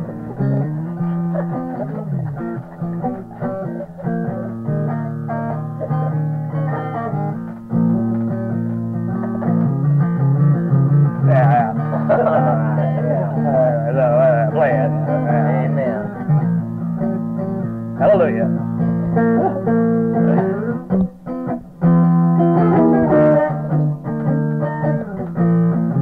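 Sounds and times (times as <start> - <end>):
plucked guitar: 0.0 - 26.0.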